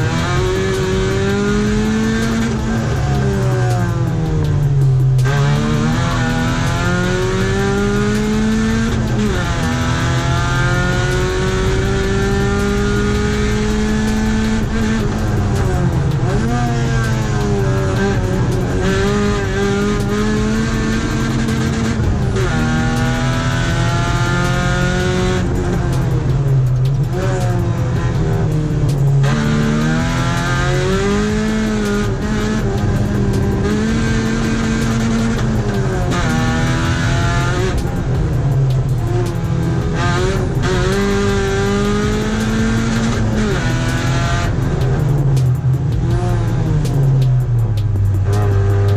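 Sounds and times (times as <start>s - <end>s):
car engine revving hard: 0.0s - 48.9s.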